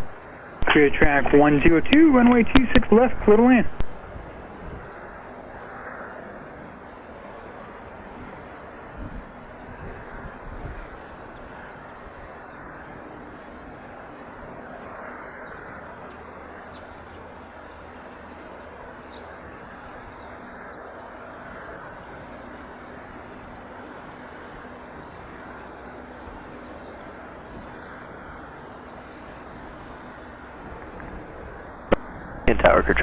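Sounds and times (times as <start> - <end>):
outdoor background noise: 0.0 - 33.0
piston aircraft engine hum: 0.0 - 33.0.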